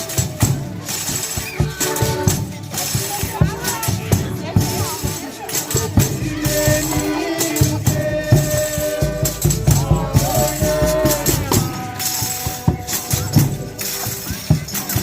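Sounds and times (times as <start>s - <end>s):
drum strikes: 0.0s - 15.0s
shakers: 0.0s - 15.0s
tambourine: 0.0s - 15.0s.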